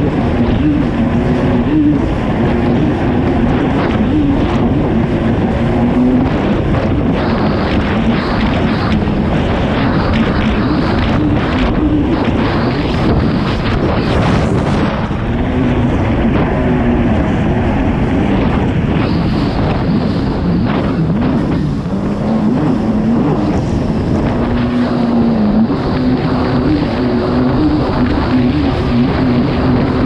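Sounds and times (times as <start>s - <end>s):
jet ski engine racing: 0.0s - 30.0s
water rushing: 0.0s - 30.0s
wind buffeting microphone: 0.0s - 30.0s.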